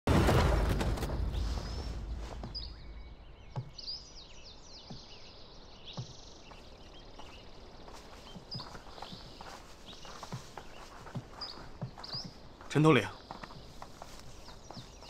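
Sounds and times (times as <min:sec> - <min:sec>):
soft low thuds: 0:00.5 - 0:12.6
birds chirping: 0:00.6 - 0:15.0.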